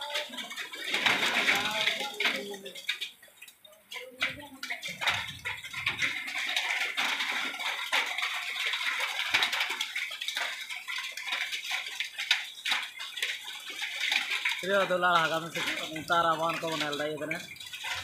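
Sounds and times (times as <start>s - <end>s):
heavy rain: 0.0s - 18.0s
raindrops pattering: 0.0s - 18.0s.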